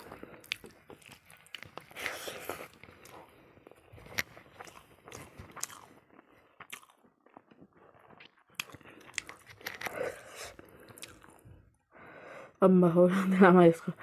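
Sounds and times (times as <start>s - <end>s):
person chewing: 0.0s - 11.9s.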